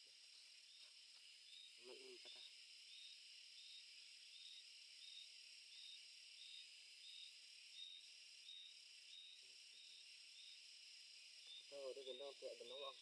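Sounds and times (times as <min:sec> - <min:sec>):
insects buzzing: 0:00.0 - 0:13.0
short high insect chirp: 0:00.0 - 0:13.0.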